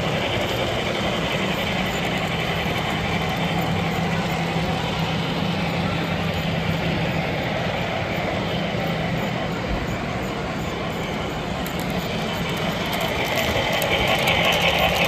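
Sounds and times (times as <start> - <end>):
constant hum: 0.0 - 15.0
model train running: 0.0 - 15.0.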